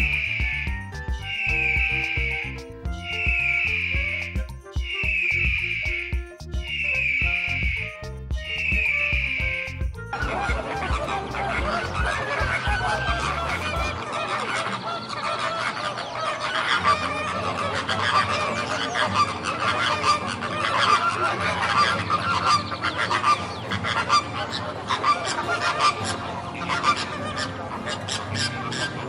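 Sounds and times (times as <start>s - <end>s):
flamingos honking: 0.0s - 29.0s.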